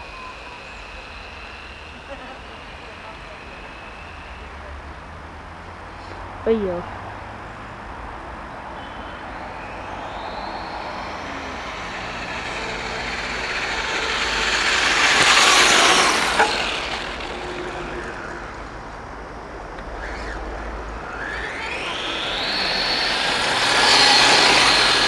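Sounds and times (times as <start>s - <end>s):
toy truck motor whine: 0.0s - 4.7s, 8.8s - 19.0s, 19.8s - 25.0s.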